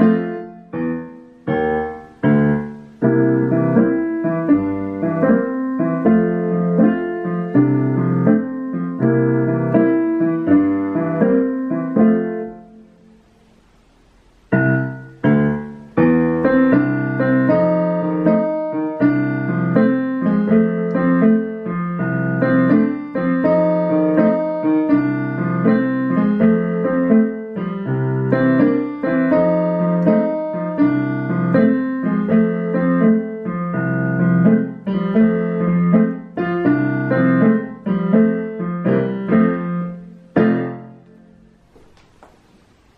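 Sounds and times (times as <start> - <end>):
piano playing blues tune: 0.0 - 13.2, 14.5 - 41.8.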